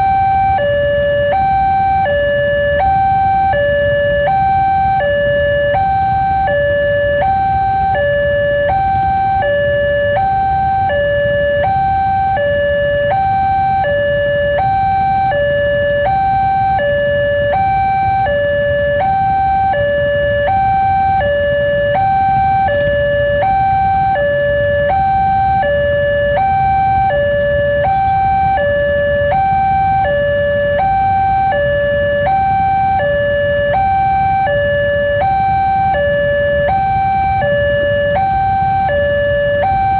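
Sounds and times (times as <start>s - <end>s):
low rumble of traffic: 0.0s - 39.9s
two-tone level crossing alarm: 0.0s - 39.9s.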